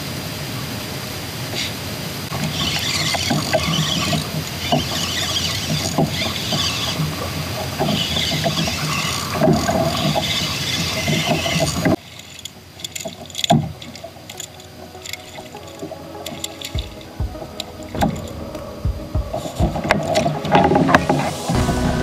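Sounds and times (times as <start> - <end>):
paddle strokes splashing: 1.5 - 22.0.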